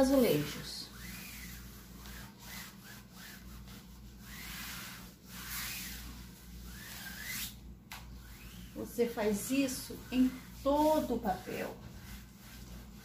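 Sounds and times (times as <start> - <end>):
cloth rubbing over wallpaper: 0.0 - 13.0.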